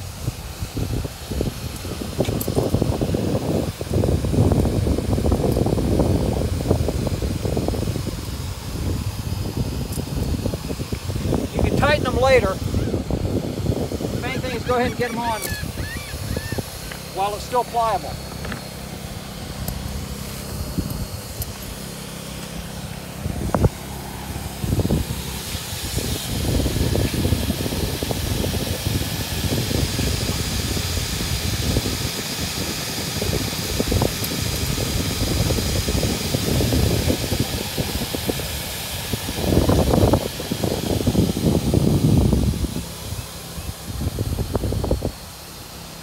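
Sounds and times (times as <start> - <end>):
low rumbling: 0.0 - 38.2
electric air blower running: 0.0 - 46.0.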